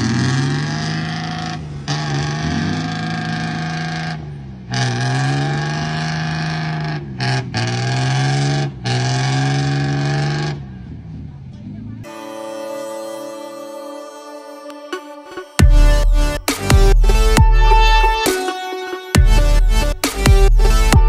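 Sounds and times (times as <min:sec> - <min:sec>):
diesel truck engine revving: 0:00.0 - 0:12.5, 0:15.6 - 0:21.0.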